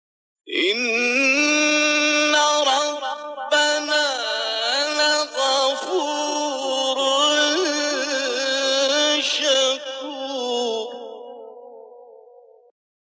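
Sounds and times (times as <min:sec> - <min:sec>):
man chanting melodic recitation: 0:00.5 - 0:11.6.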